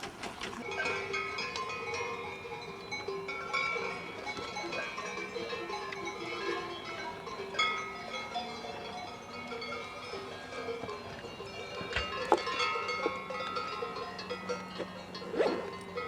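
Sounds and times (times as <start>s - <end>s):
cowbells clanking: 0.4s - 16.0s.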